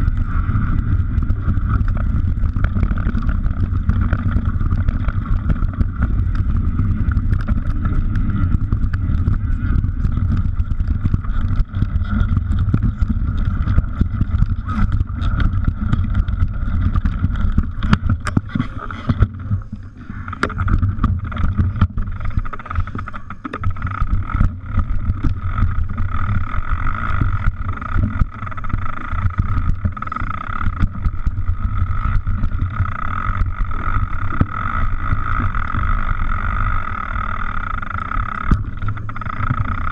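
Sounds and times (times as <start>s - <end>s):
bike rattling over rocks: 0.0s - 39.9s
wind rumbling on microphone: 0.0s - 39.9s.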